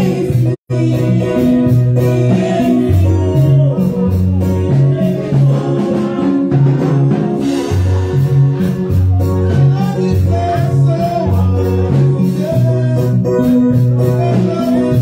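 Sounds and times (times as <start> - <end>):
repeating bass line: 0.0 - 15.0.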